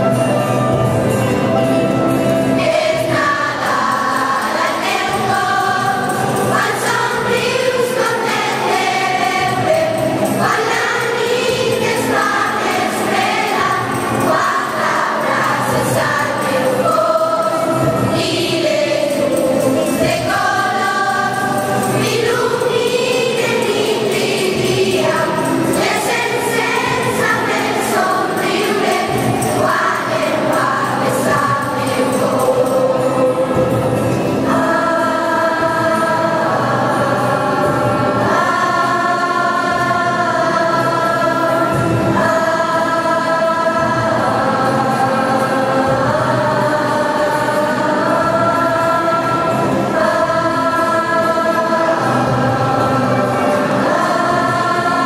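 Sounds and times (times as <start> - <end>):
children's choir singing a carol: 0.0 - 55.0.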